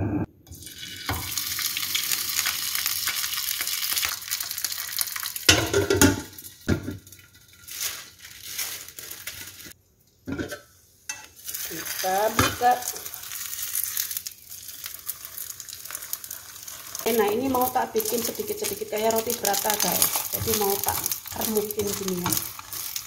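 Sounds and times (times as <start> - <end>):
flatbread sizzling in oil: 0.5 - 9.8, 11.1 - 23.0.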